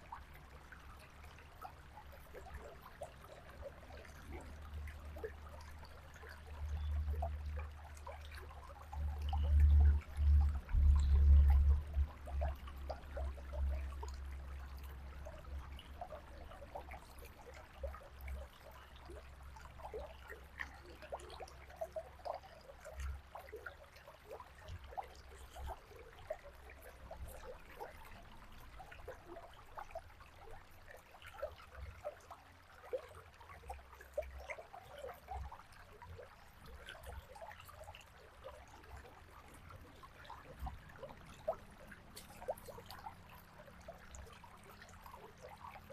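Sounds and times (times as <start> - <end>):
river water flowing: 0.0 - 45.9
small water splashes: 0.0 - 45.9.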